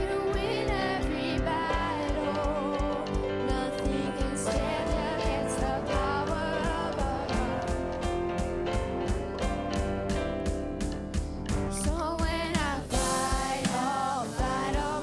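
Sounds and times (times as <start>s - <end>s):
steady drum beat: 0.0s - 15.0s
worship band playing: 0.0s - 15.0s.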